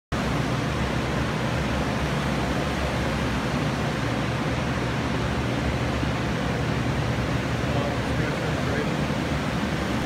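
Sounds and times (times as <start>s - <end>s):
low motor hum: 0.2s - 10.0s.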